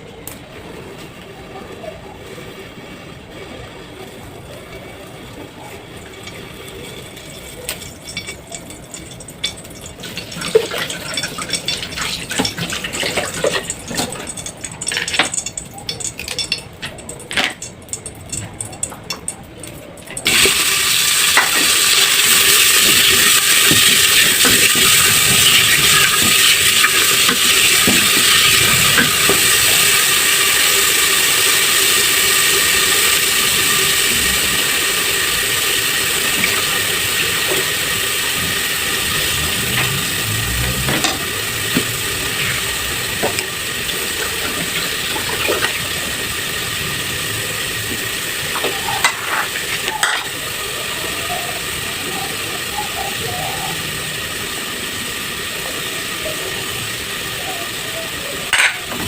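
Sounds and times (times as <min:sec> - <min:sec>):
food sizzling in hot oil: 0:05.9 - 0:19.3, 0:20.1 - 0:59.0.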